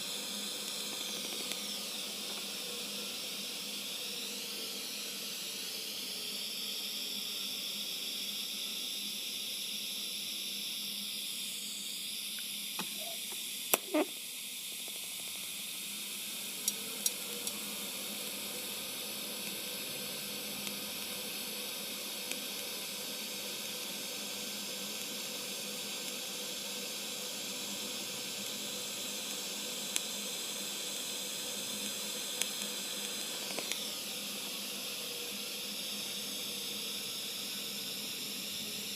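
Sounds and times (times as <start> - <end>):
welding arc hissing: 0.0 - 5.4, 11.1 - 38.9.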